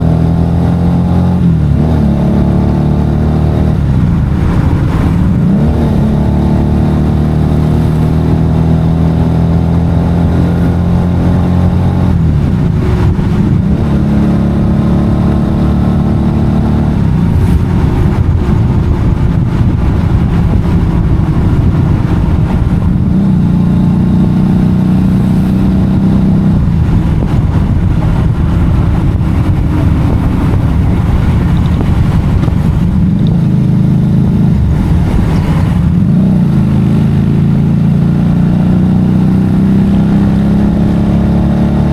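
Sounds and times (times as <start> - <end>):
motorcycle engine changing gears: 0.0 - 41.9.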